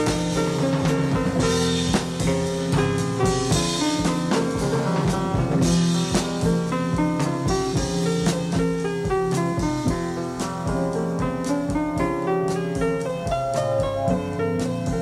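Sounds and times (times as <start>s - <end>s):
instrumental music with drums and guitar: 0.0s - 15.0s.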